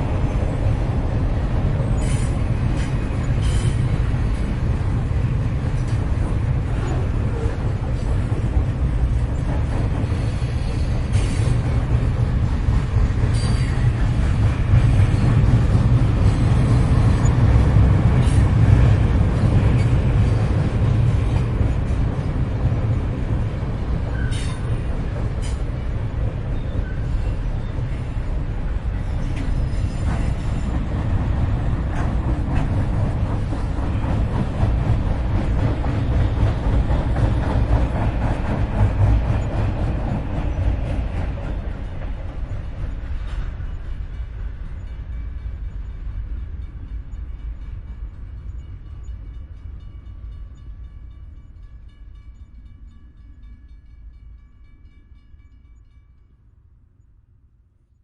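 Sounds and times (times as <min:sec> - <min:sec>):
freight train rumbling past: 0:00.0 - 0:56.7.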